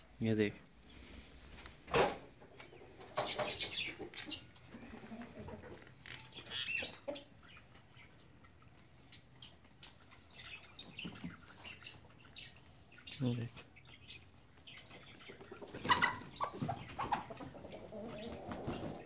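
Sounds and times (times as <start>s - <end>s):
chickens clucking: 0.8s - 19.0s.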